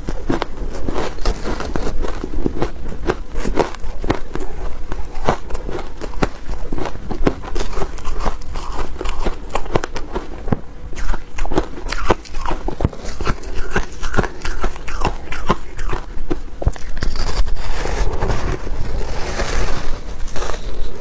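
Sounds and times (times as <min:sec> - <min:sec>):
chewing crunchy shaved ice: 0:00.0 - 0:21.0.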